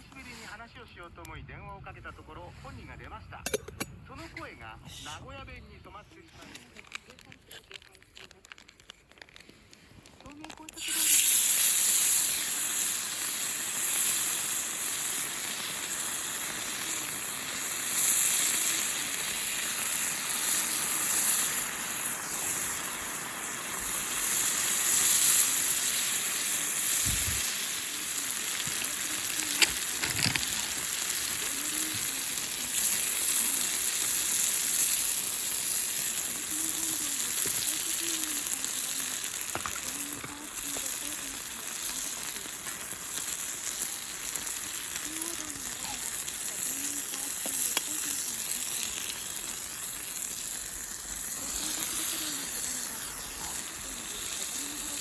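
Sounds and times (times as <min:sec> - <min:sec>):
food sizzling in frying pan: 0:06.9 - 0:55.0.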